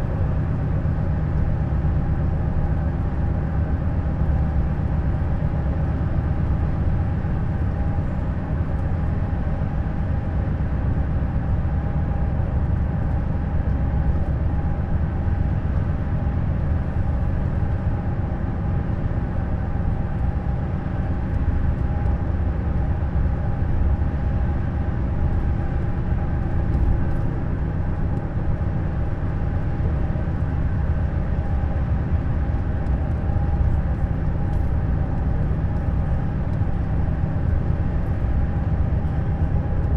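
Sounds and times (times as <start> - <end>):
coach engine rumble with whine: 0.0 - 39.9.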